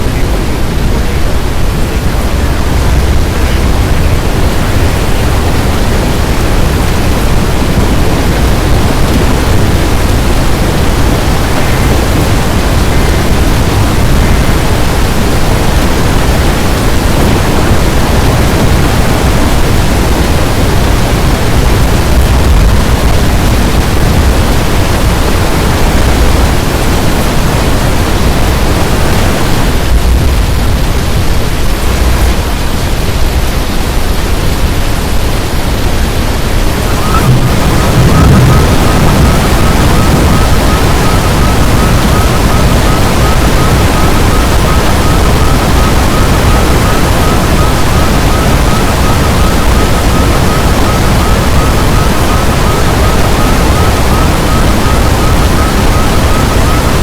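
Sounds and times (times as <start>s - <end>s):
storm wind on microphone: 0.0s - 57.0s.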